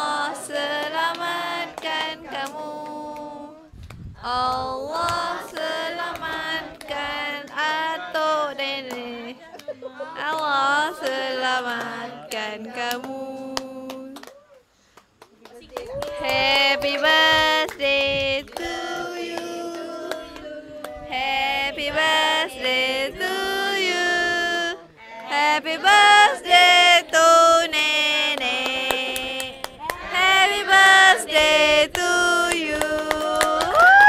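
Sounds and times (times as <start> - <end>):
group singing a celebration song: 0.0 - 14.3, 16.0 - 34.0.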